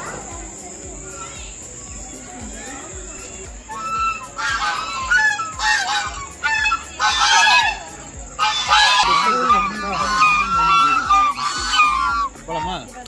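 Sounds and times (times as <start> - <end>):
geese honking: 2.5 - 13.0.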